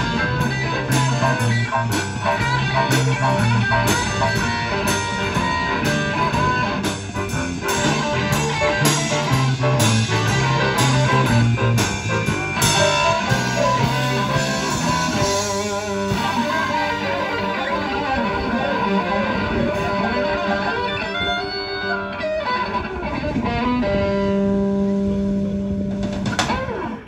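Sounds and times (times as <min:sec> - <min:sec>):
electric guitar: 0:00.0 - 0:27.0
live rock band: 0:00.0 - 0:27.0.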